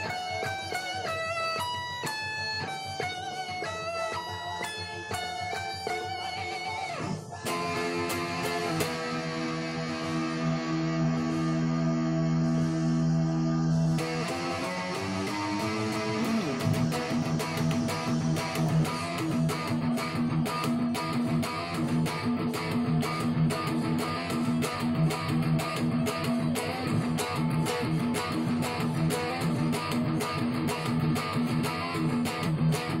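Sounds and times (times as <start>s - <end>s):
electric guitar fast picked riff: 0.0s - 33.0s.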